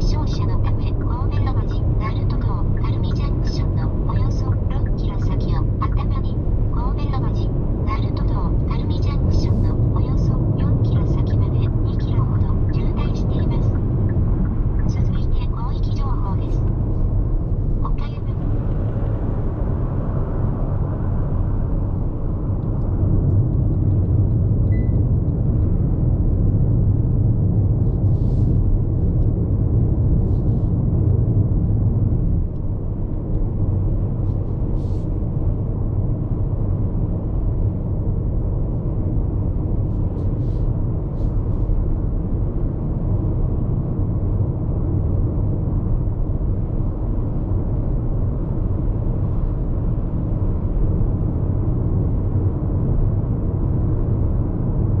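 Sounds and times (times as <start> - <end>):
tyre road noise and wind: 0.0 - 55.0.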